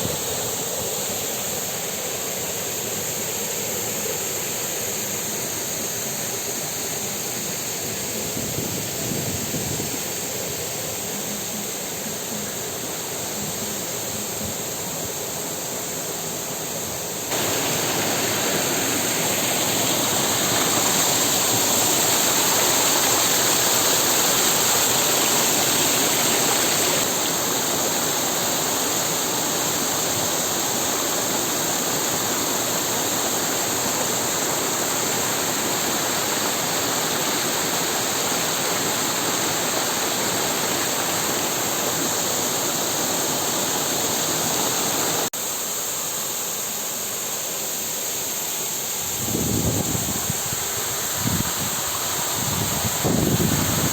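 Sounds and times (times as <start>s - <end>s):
waterfall and river rushing: 9.9s - 53.9s.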